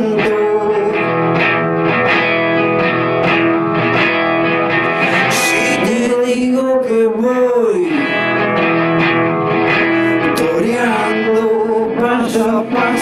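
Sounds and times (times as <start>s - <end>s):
nylon-string acoustic guitar: 0.0s - 13.0s.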